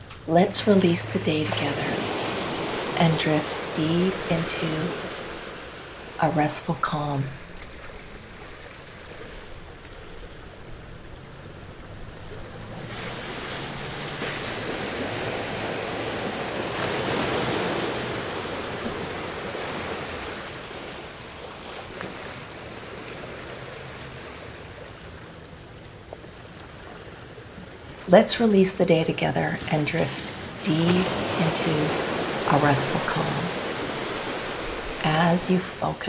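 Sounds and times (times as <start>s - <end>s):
ocean waves washing in: 0.0s - 36.0s.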